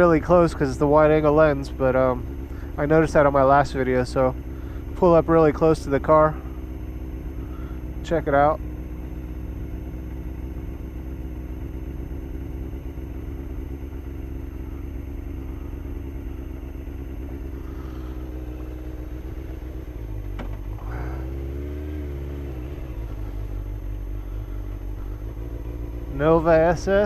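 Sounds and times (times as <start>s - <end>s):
motorcycle engine droning: 0.0s - 27.0s.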